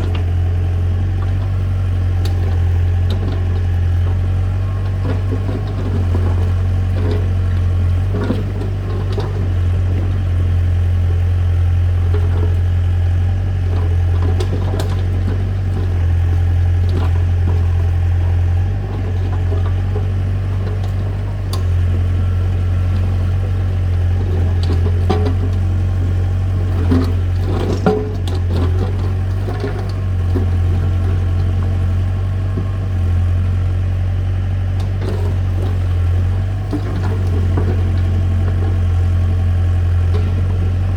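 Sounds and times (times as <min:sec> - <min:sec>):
heavy machine engine humming: 0:00.0 - 0:40.9.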